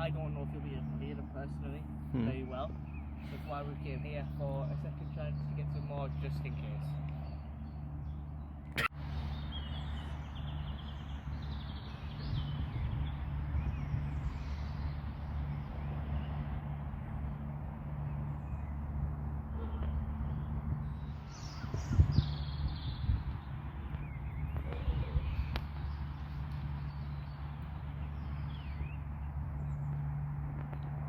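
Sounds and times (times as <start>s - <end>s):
birds calling: 0.0s - 31.0s
low background rumble: 0.0s - 31.0s.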